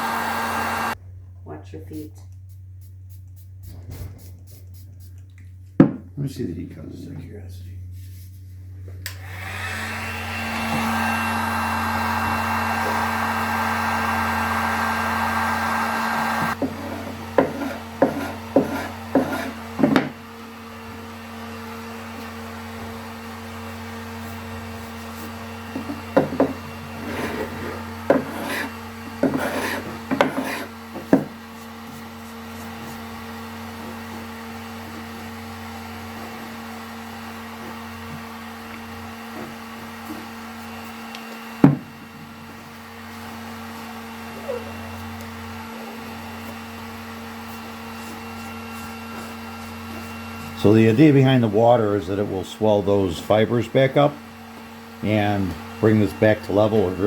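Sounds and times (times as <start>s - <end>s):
heat gun blowing: 0.0s - 1.0s, 9.0s - 16.6s, 17.2s - 57.0s.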